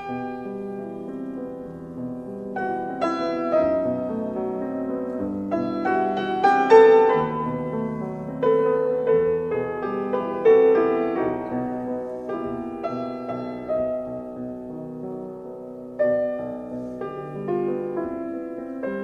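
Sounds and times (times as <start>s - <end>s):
slow gentle piano melody: 0.0s - 19.0s.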